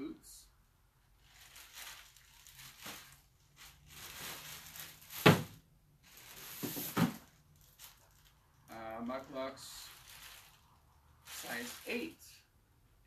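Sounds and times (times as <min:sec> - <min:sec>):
plastic bag crinkling: 0:01.2 - 0:12.2.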